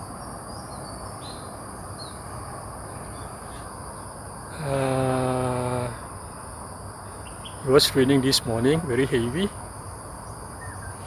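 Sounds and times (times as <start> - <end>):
high-pitched insect drone: 0.0 - 11.0
low background noise: 0.0 - 11.0.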